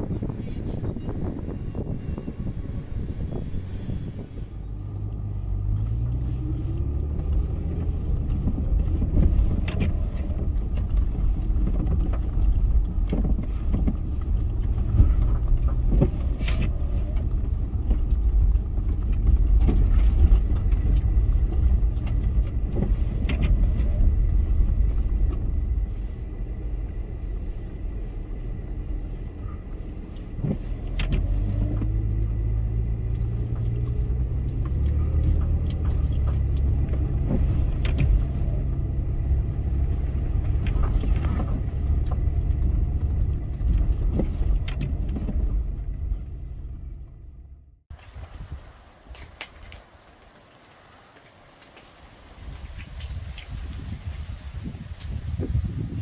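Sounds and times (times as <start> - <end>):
vehicle engine revving: 1.8 - 47.8.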